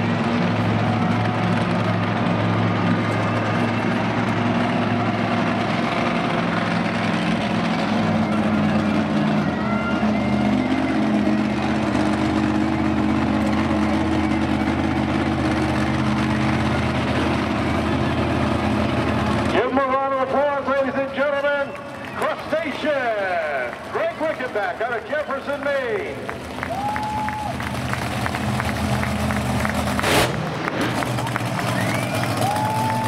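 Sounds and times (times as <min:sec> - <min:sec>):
monster truck engine running: 0:00.0 - 0:33.0.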